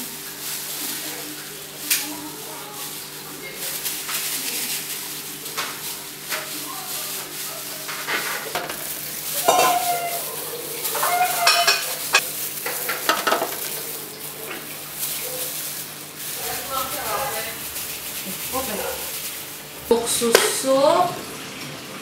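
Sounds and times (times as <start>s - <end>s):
plastic gloves crinkling: 0.0s - 20.6s.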